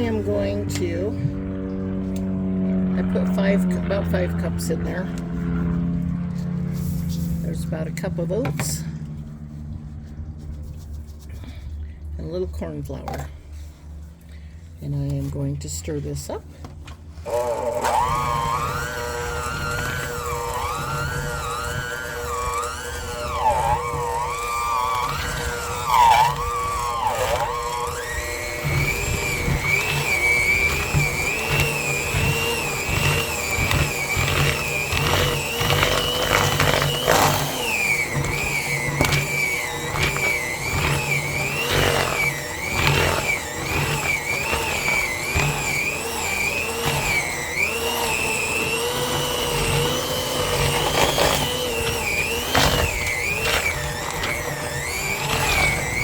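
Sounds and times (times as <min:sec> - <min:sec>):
electric mixer whining: 0:00.0 - 0:10.3, 0:16.1 - 0:56.0.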